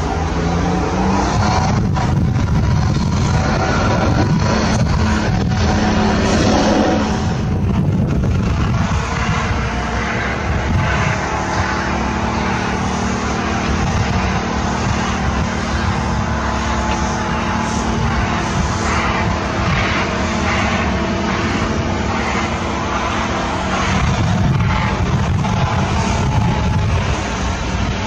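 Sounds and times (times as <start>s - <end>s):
diesel engine under load: 0.0s - 28.0s
plow scraping snow: 0.0s - 28.0s.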